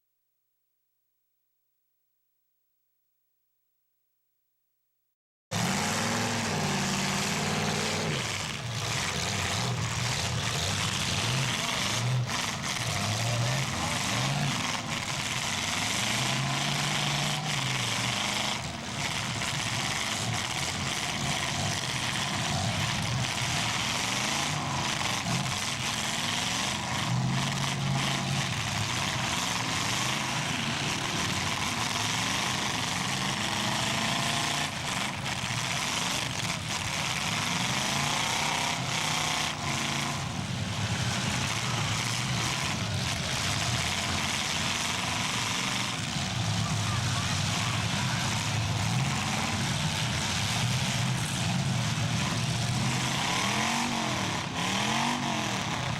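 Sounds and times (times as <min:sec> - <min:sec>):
car engines revving: 0:05.5 - 0:55.9.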